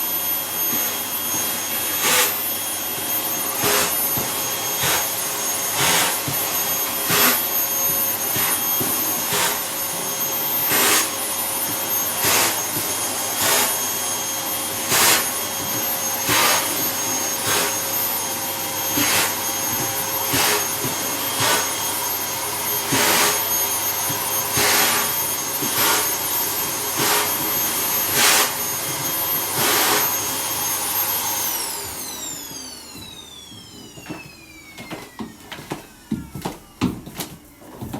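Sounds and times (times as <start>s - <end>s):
vacuum cleaner whining: 0.0s - 37.9s.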